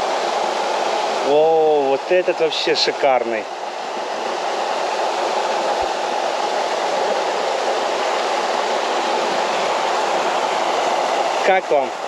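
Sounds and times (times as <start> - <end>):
waterfall pouring over rocks: 0.0 - 12.0.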